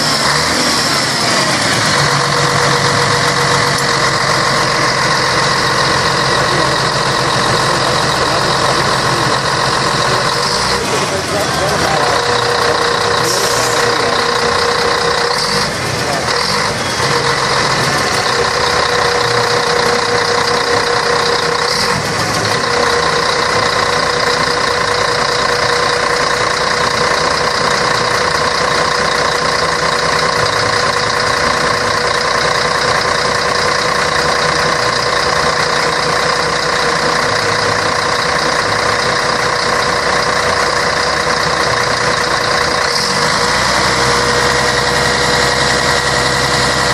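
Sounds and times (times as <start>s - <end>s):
bus diesel engine droning: 0.0s - 46.9s.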